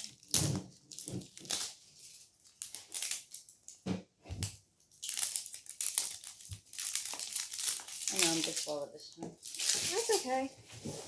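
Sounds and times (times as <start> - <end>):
plastic wrapping rustling and crinkling: 0.0 - 11.0.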